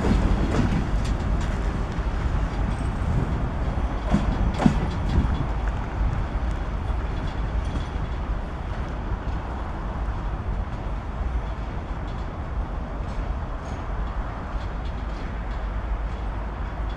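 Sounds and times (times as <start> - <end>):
electric train rumbling: 0.0 - 16.9.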